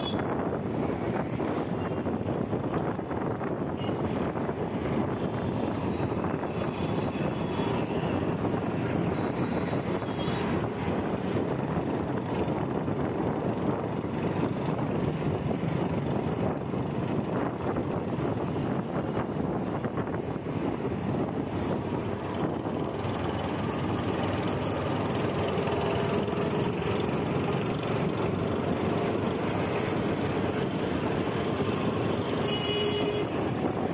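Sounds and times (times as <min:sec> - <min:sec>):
bicycle road noise: 0:00.0 - 0:33.9
street motor traffic: 0:00.0 - 0:33.9.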